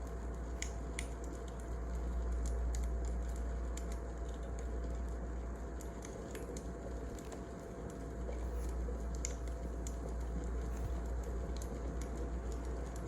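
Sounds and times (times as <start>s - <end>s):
wood fire crackling: 0.1s - 13.0s.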